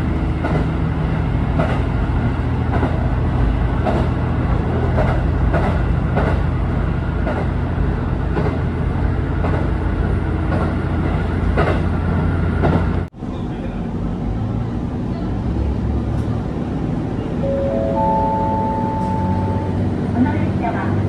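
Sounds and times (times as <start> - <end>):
railcar low hum: 0.0 - 21.0.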